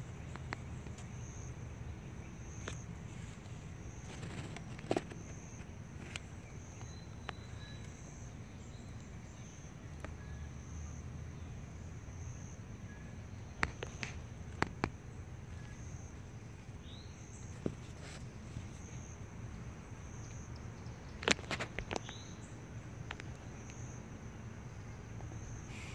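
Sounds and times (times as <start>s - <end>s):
insects pulsing chorus: 0.0s - 25.9s.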